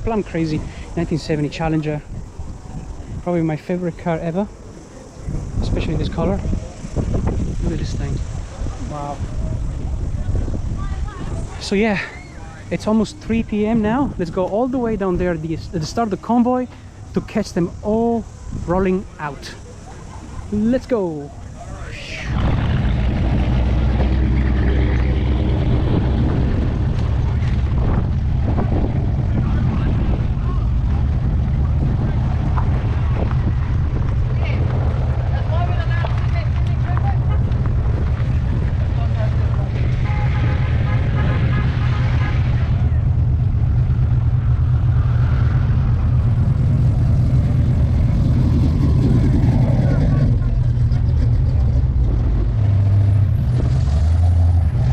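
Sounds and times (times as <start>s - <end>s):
car engines running: 0.0s - 54.9s.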